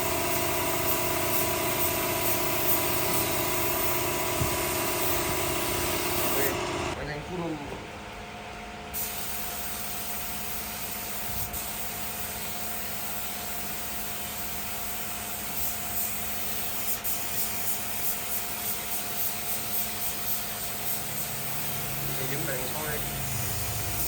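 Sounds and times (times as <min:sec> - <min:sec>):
spray gun hissing: 0:00.0 - 0:07.0, 0:09.0 - 0:24.0.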